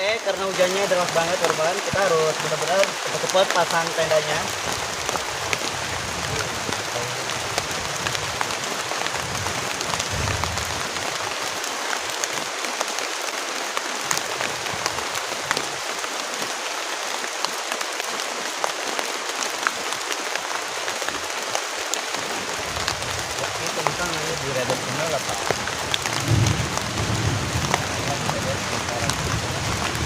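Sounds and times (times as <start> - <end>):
heavy rain falling: 0.0 - 30.0
raindrops ticking on surfaces: 0.0 - 30.0.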